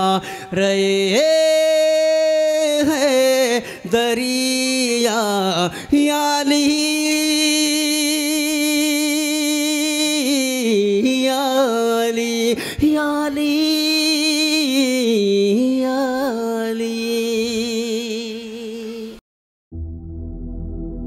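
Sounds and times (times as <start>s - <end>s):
man singing unaccompanied: 0.0s - 19.2s.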